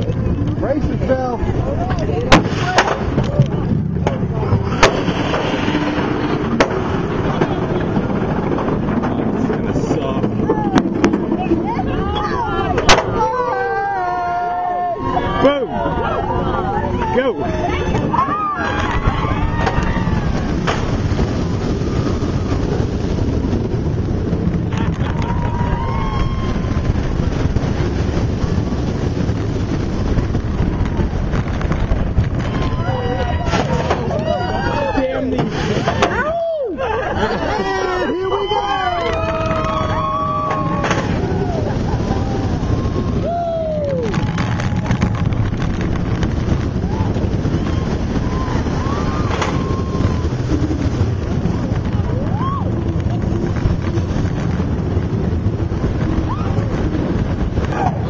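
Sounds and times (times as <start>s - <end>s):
roller coaster rumbling on track: 0.0s - 58.0s
wind buffeting microphone: 0.0s - 58.0s
riders whooping: 9.8s - 58.0s.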